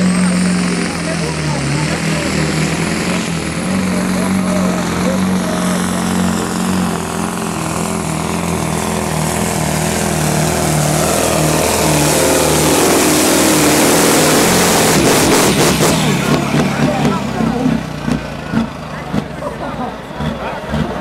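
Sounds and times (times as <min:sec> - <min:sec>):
diesel truck engine running flat out: 0:00.0 - 0:21.0.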